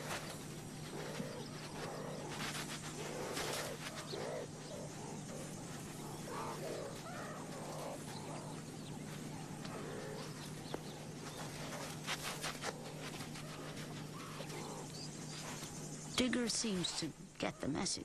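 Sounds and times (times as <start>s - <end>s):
steady low hum: 0.0s - 17.6s
faint animal calls: 0.0s - 17.8s.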